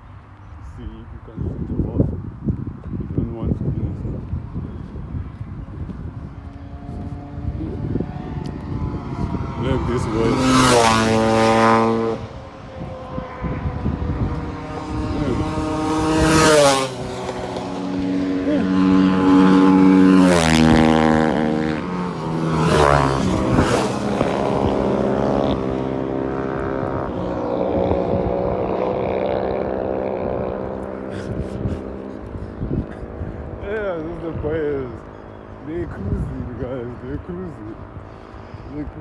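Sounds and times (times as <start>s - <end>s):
vehicles passing on road: 0.0s - 39.0s.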